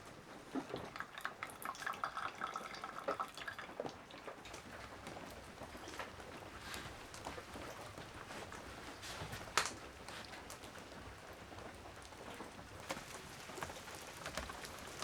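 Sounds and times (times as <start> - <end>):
water pouring and dripping: 0.3 - 15.0.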